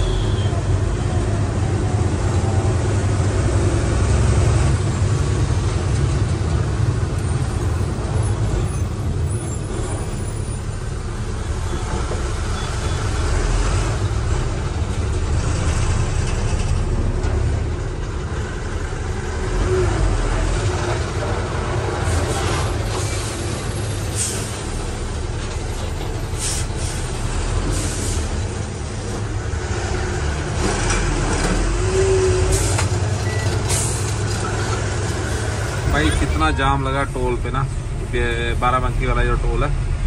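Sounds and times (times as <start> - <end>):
road and cab noise: 0.0 - 40.0
truck diesel engine rumbling: 0.0 - 40.0.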